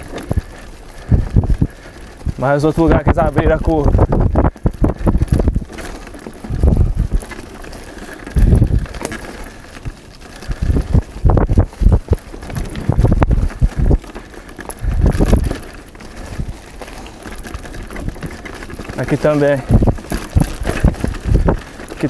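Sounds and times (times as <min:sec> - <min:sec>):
bike rattling: 0:00.0 - 0:22.0
bike tyres crunching over leaves: 0:00.0 - 0:22.0
wind buffeting microphone: 0:00.0 - 0:22.0.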